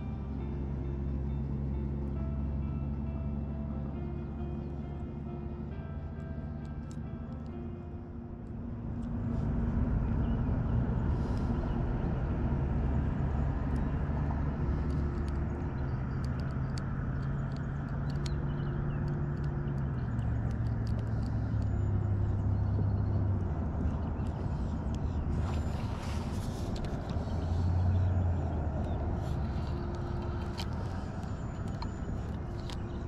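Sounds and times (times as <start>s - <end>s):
low motor hum: 0.0s - 33.0s.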